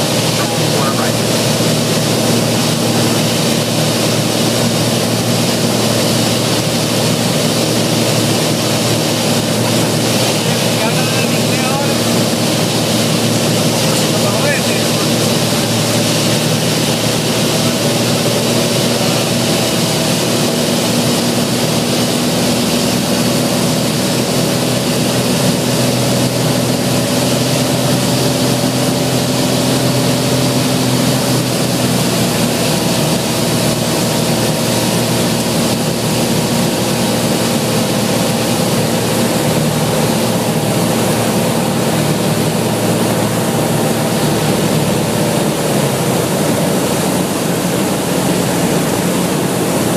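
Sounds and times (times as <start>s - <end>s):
propeller plane engine droning: 0.0s - 49.9s.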